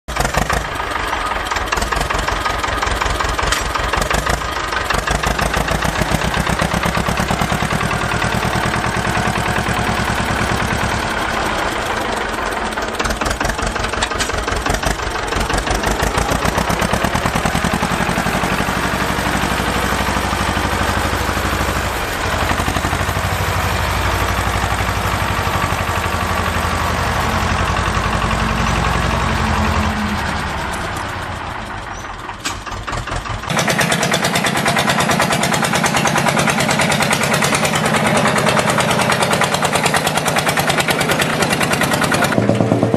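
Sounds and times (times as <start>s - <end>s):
engine chugging: 0.1s - 42.9s.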